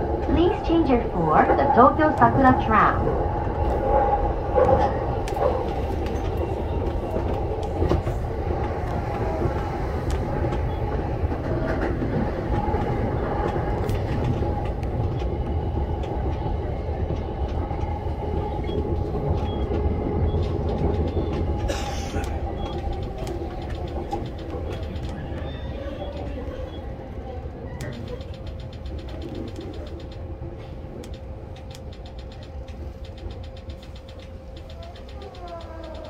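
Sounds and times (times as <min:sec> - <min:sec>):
track clicks: 0:00.0 - 0:26.9, 0:27.8 - 0:36.0
train wheels rumbling on rails: 0:00.0 - 0:36.0.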